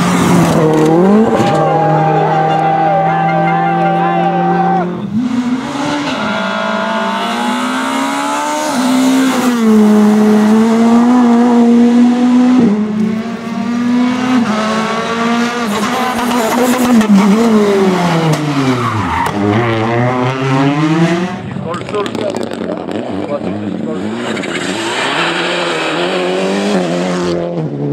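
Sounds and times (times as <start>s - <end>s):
rally car engine at high revs: 0.0s - 27.9s.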